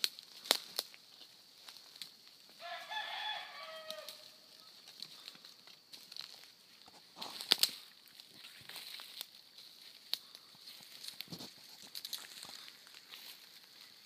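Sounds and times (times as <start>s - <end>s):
sharp crackles: 0.0s - 3.0s, 3.6s - 14.0s.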